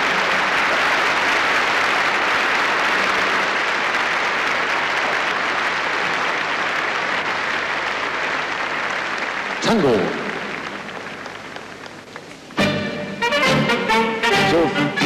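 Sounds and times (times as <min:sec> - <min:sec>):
arena audience applauding: 0:00.0 - 0:12.7.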